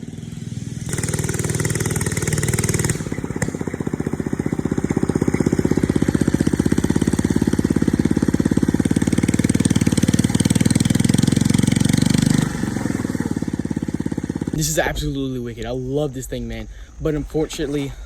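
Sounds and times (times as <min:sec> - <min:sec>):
small single-cylinder engine running: 0:00.0 - 0:14.6.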